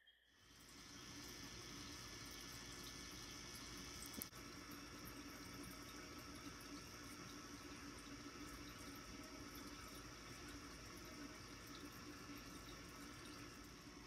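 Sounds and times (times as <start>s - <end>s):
faint watery hiss: 0.4s - 14.0s.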